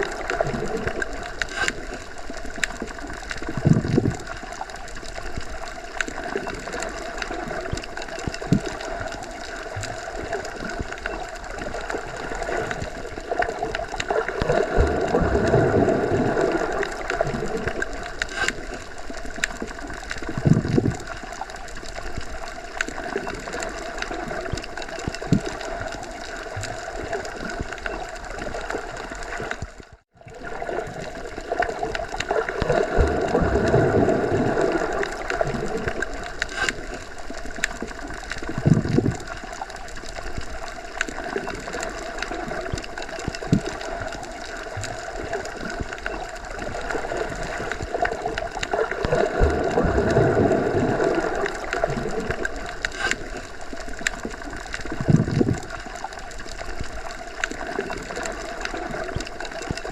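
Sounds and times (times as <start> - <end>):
muffled underwater water rush: 0.0 - 59.9.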